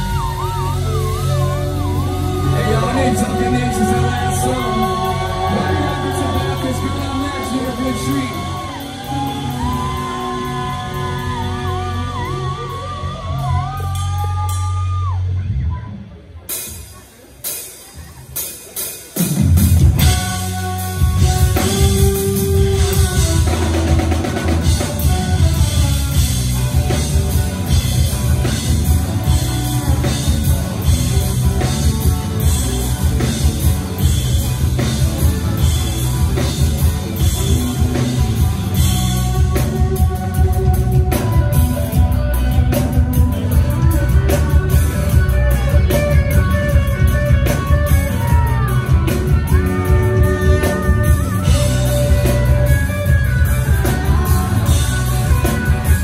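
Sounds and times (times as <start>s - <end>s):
drum kit beat: 0.0s - 15.2s, 16.5s - 56.0s
live rock band playing: 0.0s - 56.0s.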